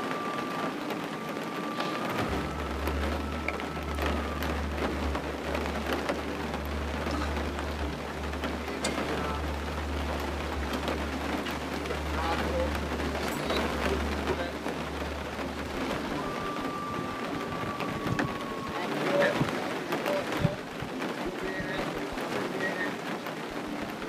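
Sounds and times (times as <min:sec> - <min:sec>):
rain falling: 0:00.0 - 0:24.0
low steady rumble: 0:01.5 - 0:21.8.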